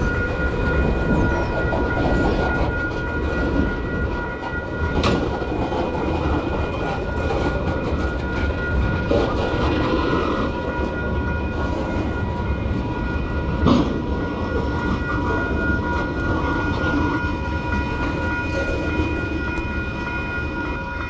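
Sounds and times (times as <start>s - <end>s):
high steady ringing: 0.0s - 21.0s
train wheels rumbling on rails: 0.0s - 21.0s.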